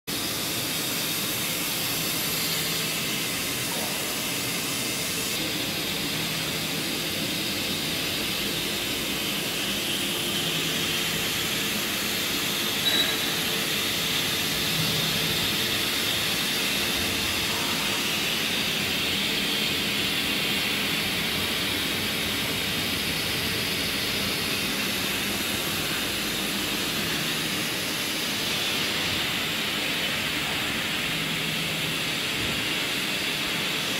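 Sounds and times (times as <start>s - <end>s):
low even machine hum: 0.1s - 33.9s.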